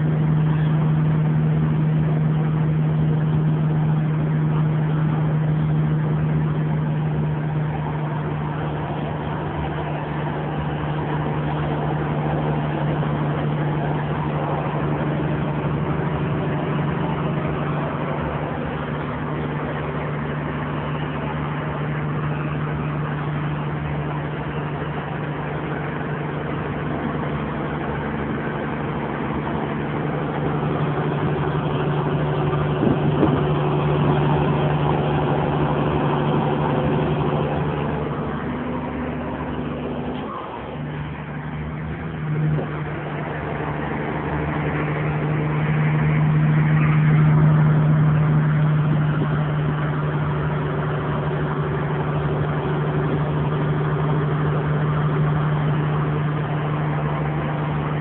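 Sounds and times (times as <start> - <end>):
diesel truck engine running: 0.0 - 58.0
road noise: 0.0 - 58.0.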